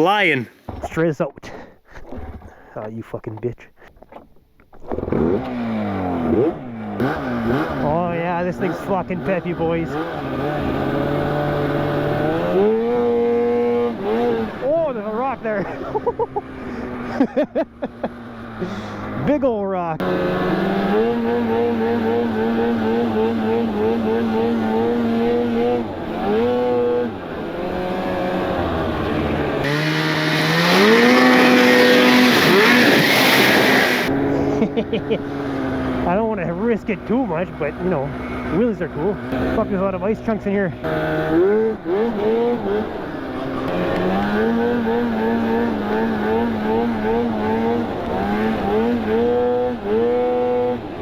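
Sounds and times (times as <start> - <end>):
snowmobile engine revving: 0.0 - 0.6, 4.9 - 51.0.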